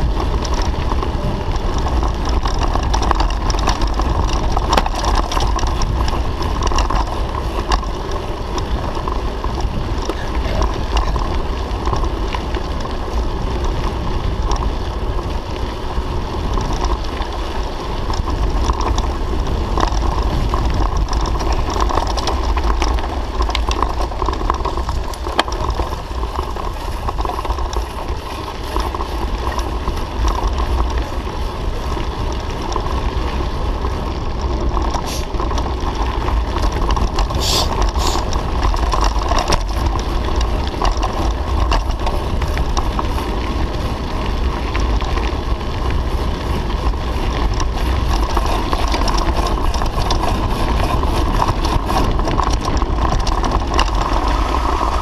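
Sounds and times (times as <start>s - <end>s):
bike clicks and rattles: 0.0s - 55.0s
bike tyres on gravel: 0.0s - 55.0s
wind rumbling on microphone: 0.0s - 55.0s.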